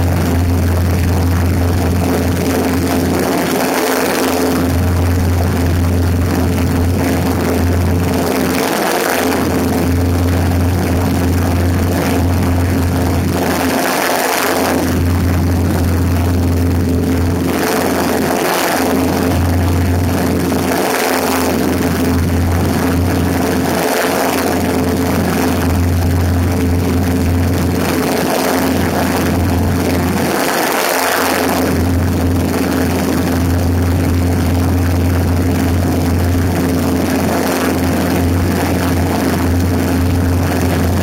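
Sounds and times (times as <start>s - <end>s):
airplane engine droning: 0.0s - 41.0s.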